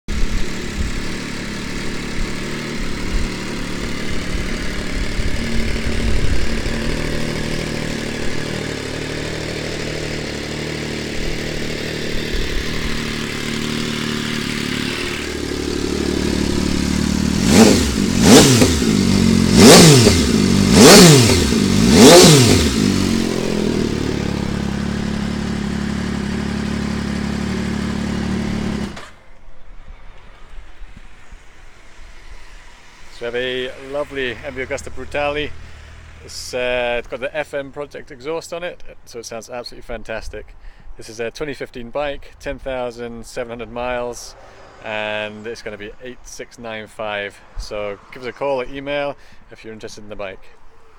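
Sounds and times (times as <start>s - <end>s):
motorcycle engine idling and revving: 0.1s - 38.1s, 43.6s - 49.4s.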